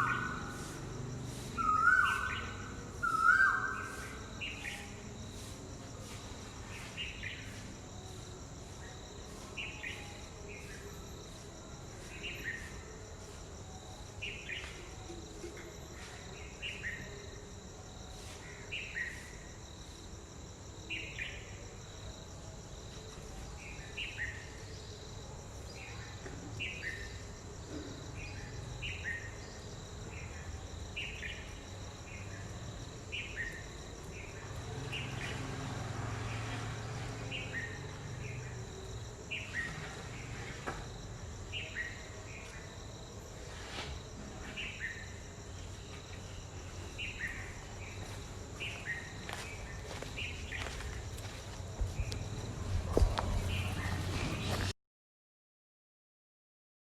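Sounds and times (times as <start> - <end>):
crickets chirping: 0.0 - 54.7.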